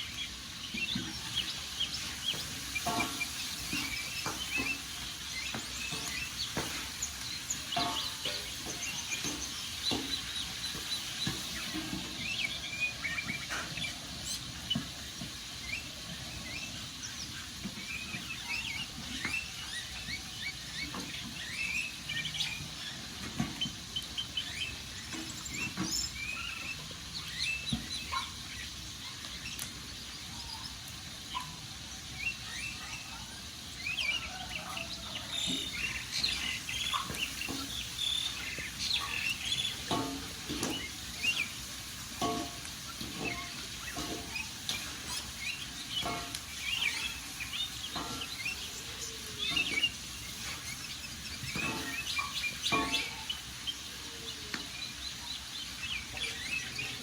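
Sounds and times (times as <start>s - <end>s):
crackling wood fire: 0.0s - 57.0s
small birds chirping: 0.0s - 57.0s.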